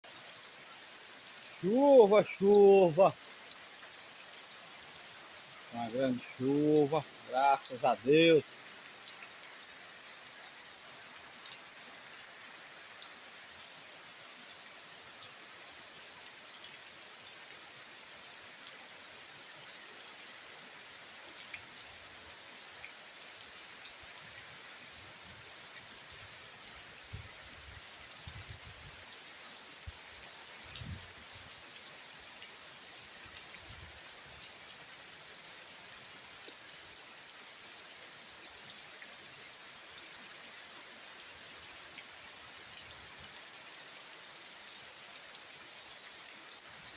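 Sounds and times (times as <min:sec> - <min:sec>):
heavy rain: 0:00.0 - 0:46.9.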